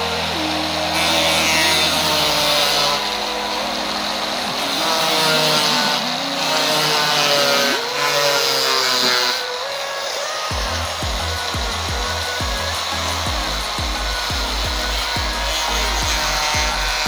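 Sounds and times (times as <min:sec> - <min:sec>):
angle grinder cutting: 0:00.0 - 0:17.0.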